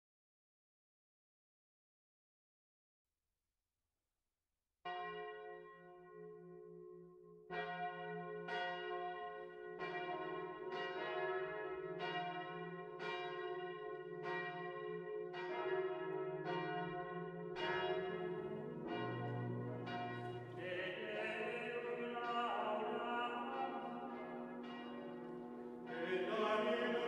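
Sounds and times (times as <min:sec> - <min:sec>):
church bell tolling: 0:04.9 - 0:27.0.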